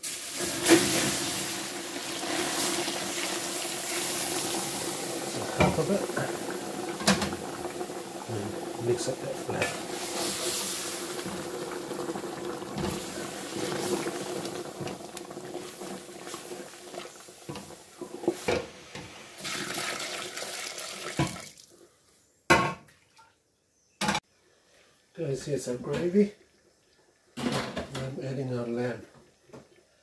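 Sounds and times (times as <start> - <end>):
gravy boiling and bubbling: 0.0 - 21.8, 25.2 - 30.0.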